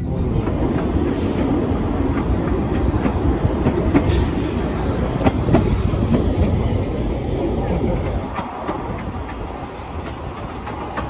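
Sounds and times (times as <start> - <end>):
train wheels rumbling on rail: 0.0 - 11.0
wheels clicking over rail joints: 0.0 - 11.0.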